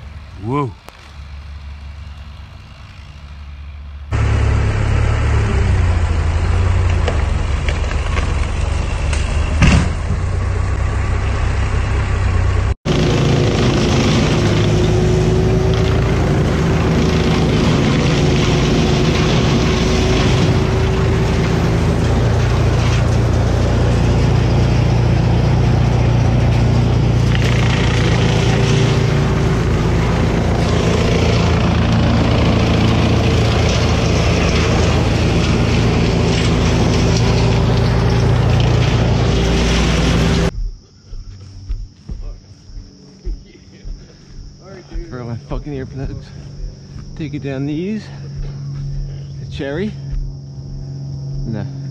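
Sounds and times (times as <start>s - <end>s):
wood chipper engine running: 0.0s - 40.5s, 41.4s - 51.9s.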